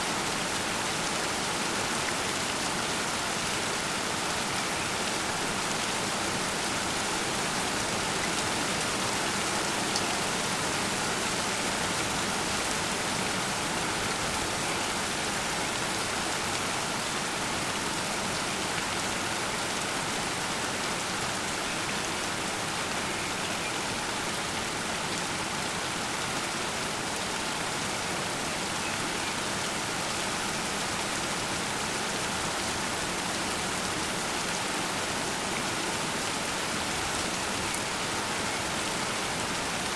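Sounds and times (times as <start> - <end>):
heavy rain on surfaces: 0.0 - 39.9.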